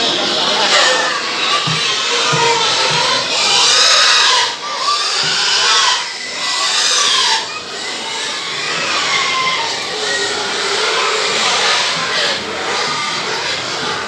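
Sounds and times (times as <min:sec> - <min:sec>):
pigs squealing: 0:00.0 - 0:14.0.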